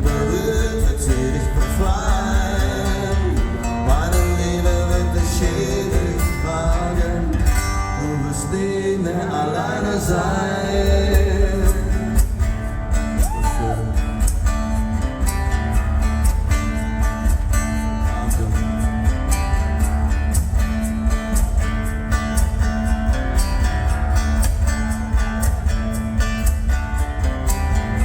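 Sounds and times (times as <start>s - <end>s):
electric guitar: 0.0s - 28.0s
live band playing: 0.0s - 28.0s.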